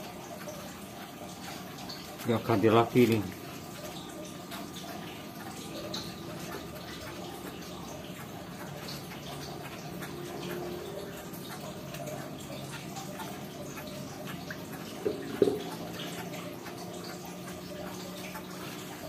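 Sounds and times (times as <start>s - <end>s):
running water trickling: 0.0s - 19.0s.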